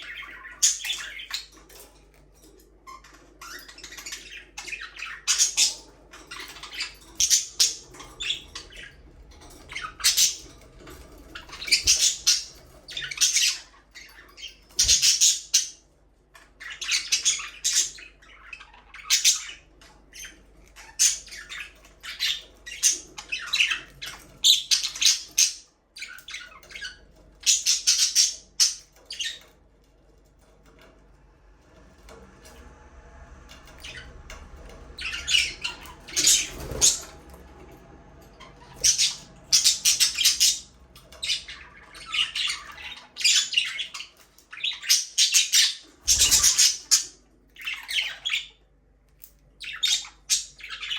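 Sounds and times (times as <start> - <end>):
budgerigars chirping: 0.0 - 2.3, 2.9 - 15.8, 16.5 - 29.5, 34.9 - 37.2, 38.4 - 48.6, 49.6 - 50.9.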